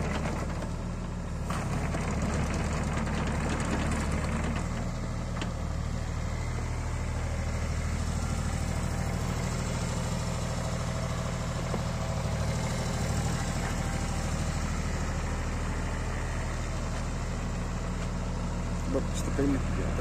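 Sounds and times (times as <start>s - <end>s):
excavator diesel engine idling: 0.0s - 20.0s.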